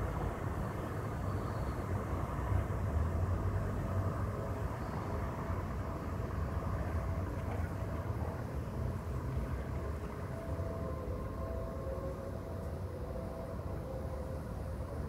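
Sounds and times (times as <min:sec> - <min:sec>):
city ambience rumble: 0:00.0 - 0:15.0.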